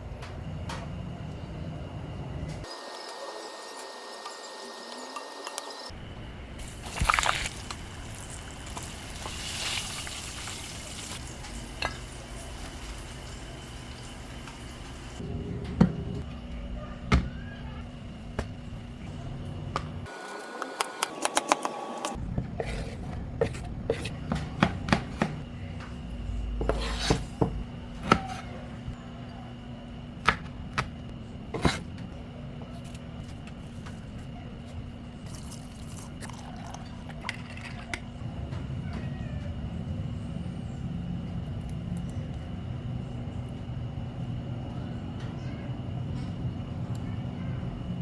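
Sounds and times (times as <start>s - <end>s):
steady background hum: 0.0s - 3.8s, 5.5s - 48.0s.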